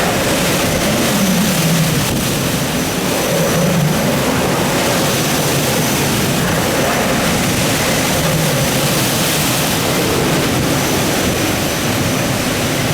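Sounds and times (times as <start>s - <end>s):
strong wind roaring: 0.0s - 12.9s.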